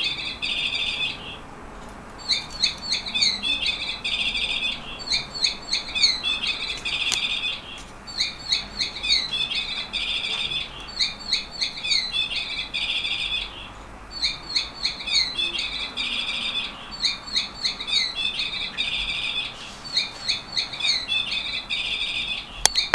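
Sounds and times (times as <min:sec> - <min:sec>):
canary singing: 0:00.0 - 0:22.9.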